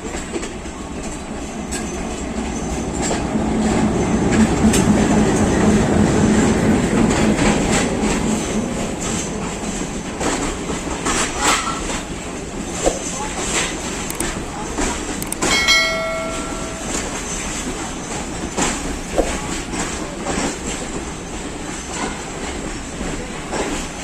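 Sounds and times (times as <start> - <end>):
train low hum: 0.0 - 24.0
train wheels clicking over rails: 0.0 - 24.0.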